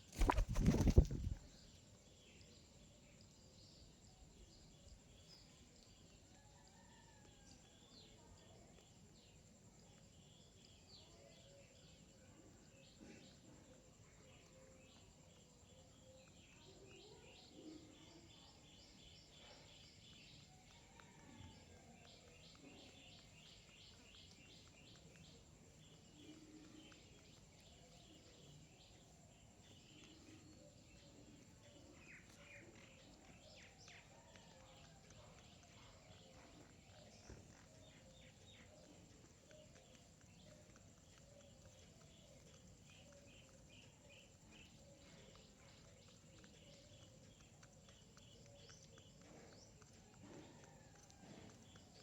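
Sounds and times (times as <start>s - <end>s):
low background noise: 0.0s - 52.0s
small birds chirping: 0.0s - 52.0s.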